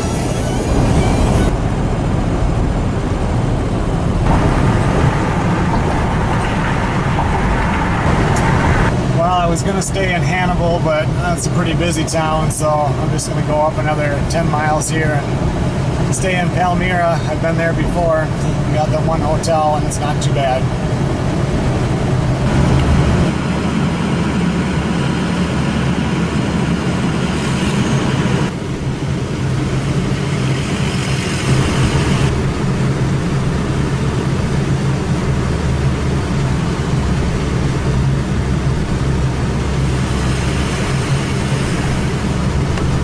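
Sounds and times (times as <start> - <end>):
road and engine noise in cabin: 0.0 - 43.0.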